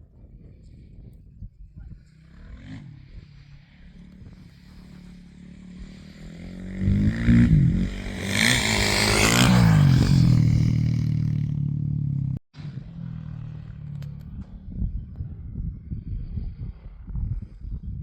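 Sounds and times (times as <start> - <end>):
motorcycle engine revving: 2.0 - 17.4.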